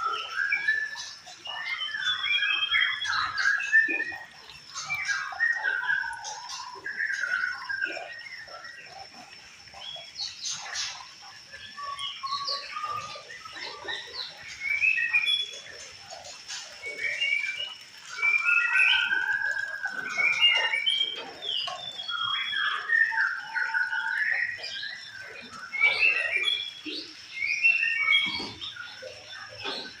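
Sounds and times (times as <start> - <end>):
songbird whistling and chattering: 0.0 - 30.0.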